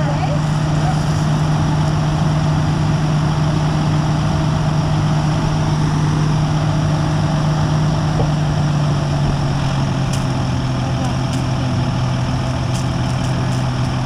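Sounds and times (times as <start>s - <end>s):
fire hose water rushing: 0.0s - 14.0s
fire truck engine running: 0.0s - 14.0s.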